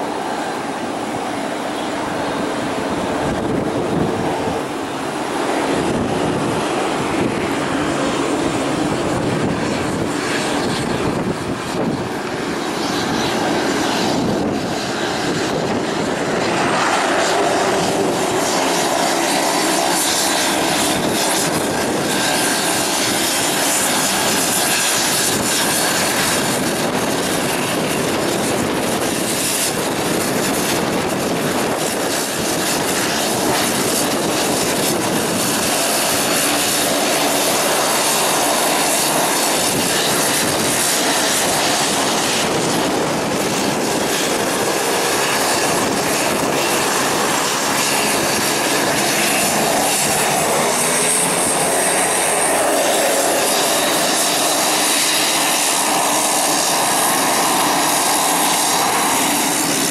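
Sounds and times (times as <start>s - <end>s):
turboprop plane engine taxiing: 0.0s - 59.9s.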